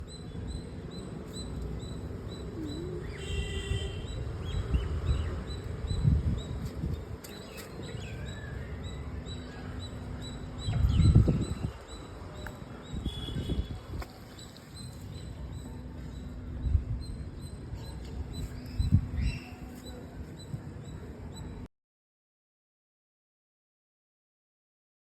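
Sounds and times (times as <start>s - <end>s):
birds chirping: 0.0s - 21.6s.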